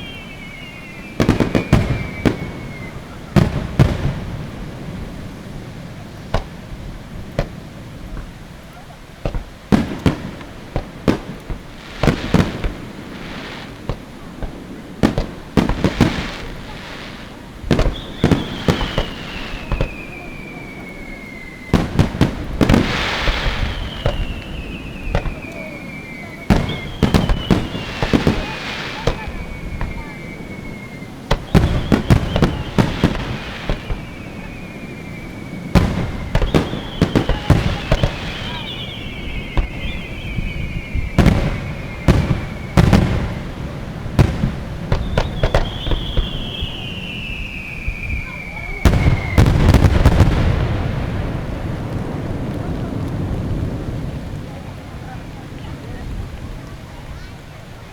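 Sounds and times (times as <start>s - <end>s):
falling firework whistle: 0.0s - 52.2s
fireworks bangs: 0.0s - 57.9s
fireworks crackling: 0.0s - 57.9s.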